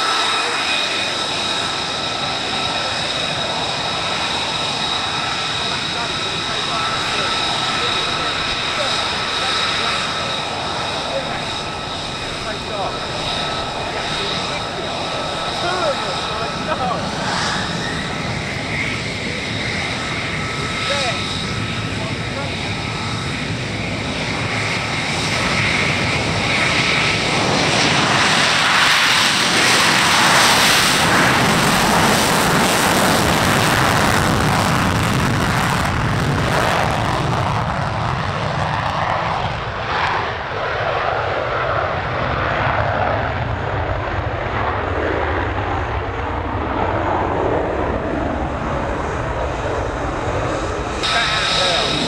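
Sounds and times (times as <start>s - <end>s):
jet engine roar: 0.0s - 52.0s.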